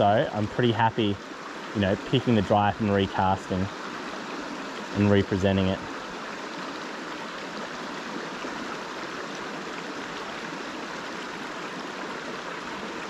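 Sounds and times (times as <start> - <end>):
river flowing: 0.0 - 13.0.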